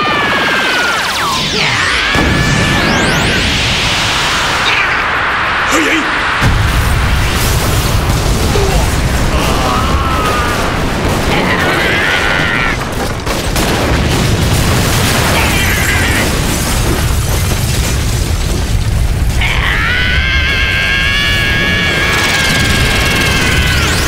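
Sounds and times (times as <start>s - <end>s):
loud rumbling blast: 0.0s - 24.0s.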